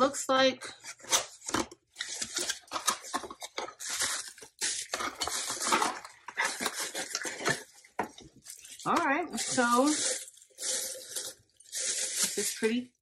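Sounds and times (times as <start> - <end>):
plastic wrapping crinkling: 0.8 - 13.0.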